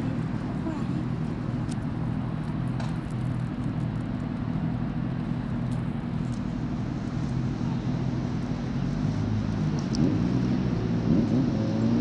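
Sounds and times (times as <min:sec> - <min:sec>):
low rumble of road vehicles: 0:00.0 - 0:12.0.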